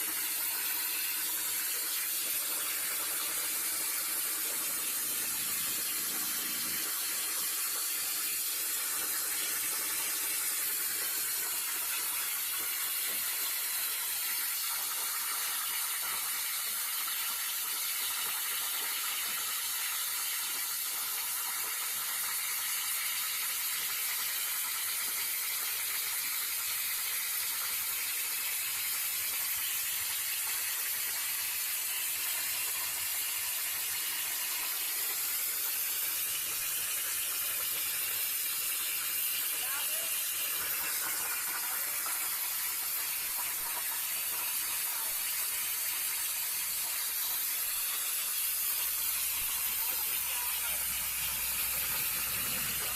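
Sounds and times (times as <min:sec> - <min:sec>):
plasma cutter hissing: 0:00.0 - 0:24.5, 0:27.3 - 0:52.9.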